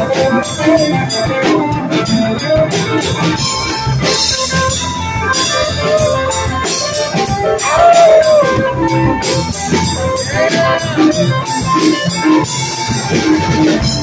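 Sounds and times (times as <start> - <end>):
drum kit beat: 0.0 - 14.0
electric guitar: 0.0 - 14.0
keyboard: 0.0 - 14.0.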